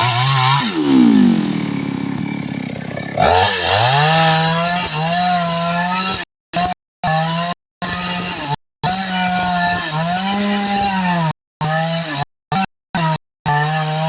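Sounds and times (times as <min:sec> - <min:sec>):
chainsaw cutting tree: 0:00.0 - 0:14.0.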